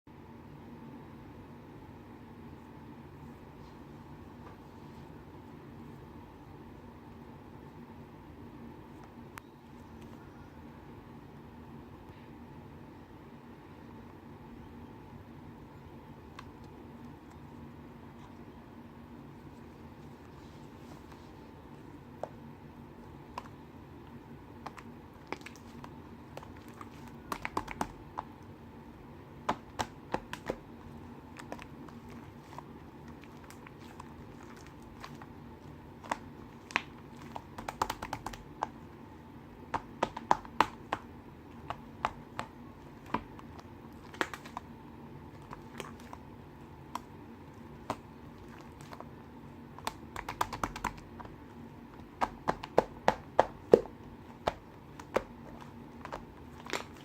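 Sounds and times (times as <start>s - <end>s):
faint steady hum: 0.1s - 57.0s.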